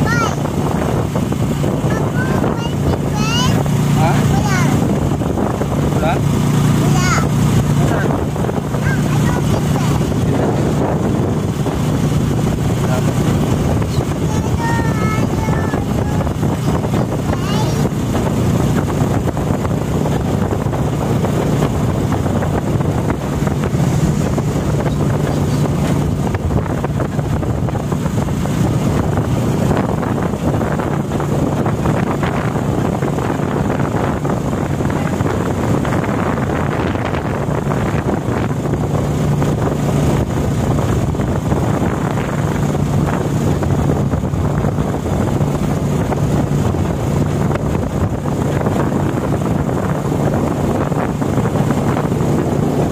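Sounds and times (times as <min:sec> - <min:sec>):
motorcycle engine running: 0:00.0 - 0:52.9
wind buffeting microphone: 0:00.0 - 0:52.9.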